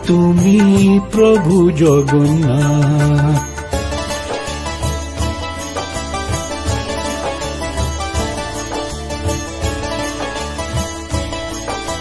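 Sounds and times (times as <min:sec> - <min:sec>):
steady drum beat: 0:00.0 - 0:11.4
instrumental melody: 0:00.0 - 0:12.0.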